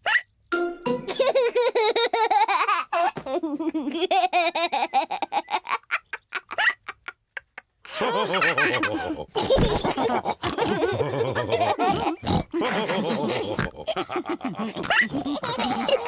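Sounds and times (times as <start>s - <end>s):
cartoon characters laughing: 1.0s - 16.0s.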